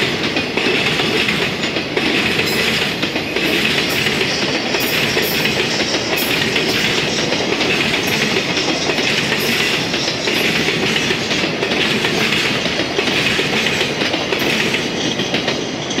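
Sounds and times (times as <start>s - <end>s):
train wheels clattering: 0.0s - 16.0s
wheels clacking on rail joints: 0.0s - 16.0s.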